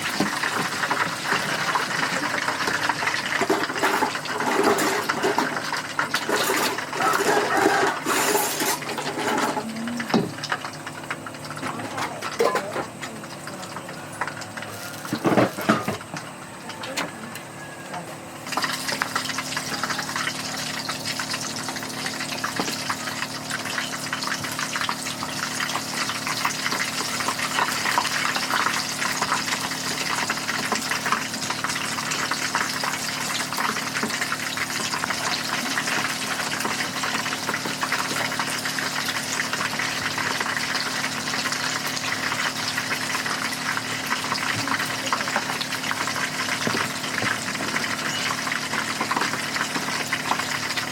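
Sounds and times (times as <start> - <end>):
food sizzling in hot oil: 0.0 - 50.9.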